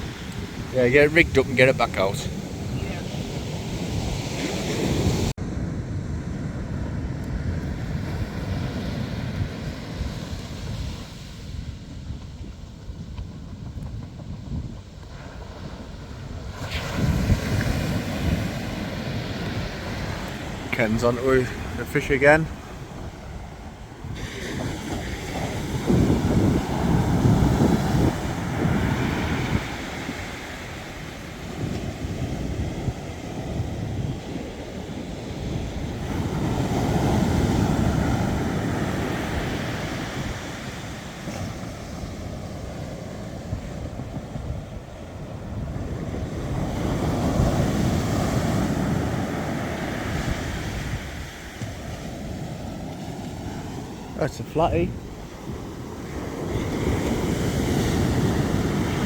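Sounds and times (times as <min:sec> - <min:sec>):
surf washing on shore: 0:00.0 - 0:59.0
wind buffeting microphone: 0:00.0 - 0:59.0.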